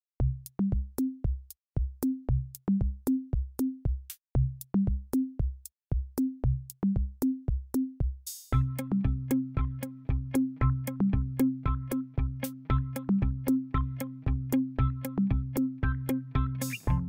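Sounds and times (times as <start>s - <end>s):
electronic drum machine beat: 0.2s - 17.0s.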